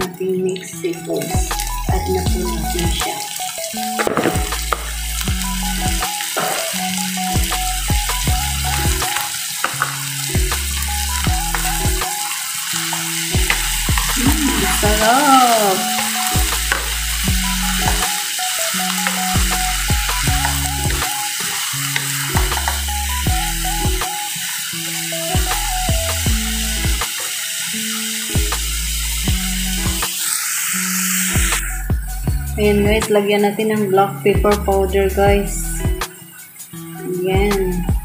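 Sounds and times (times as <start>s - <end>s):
background music: 0.0s - 38.0s
seafood sizzling in a wok: 0.8s - 33.1s, 36.1s - 37.2s.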